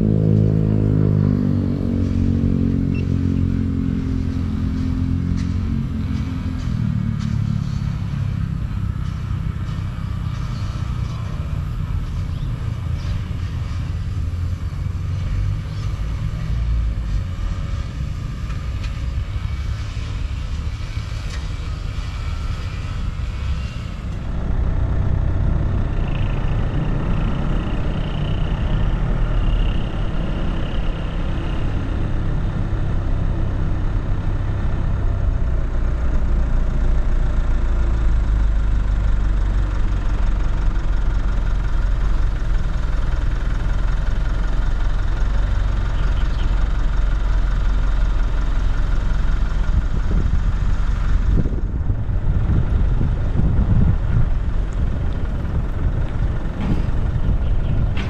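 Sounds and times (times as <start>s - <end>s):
car engine running: 0.0s - 58.0s
low rumble: 0.0s - 58.0s.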